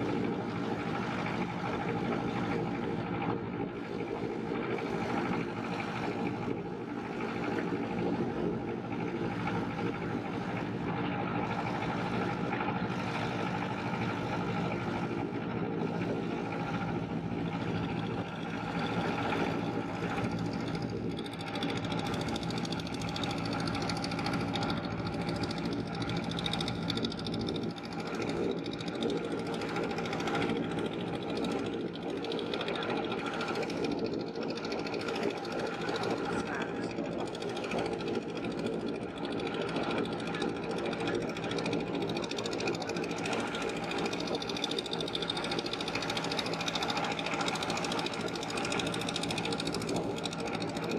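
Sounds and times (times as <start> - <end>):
boat engine running: 0.0 - 50.9
water rushing along hull: 0.0 - 50.9.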